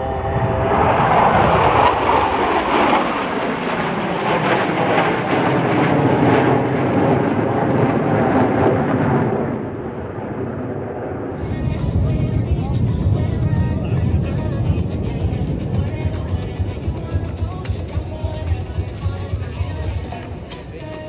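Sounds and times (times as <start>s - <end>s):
aircraft roaring in flight: 0.0s - 21.0s.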